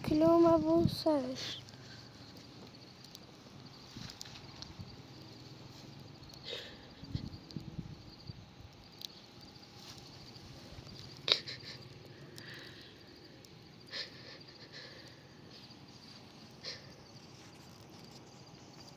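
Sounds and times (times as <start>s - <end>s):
insects chirping: 0.0s - 18.9s.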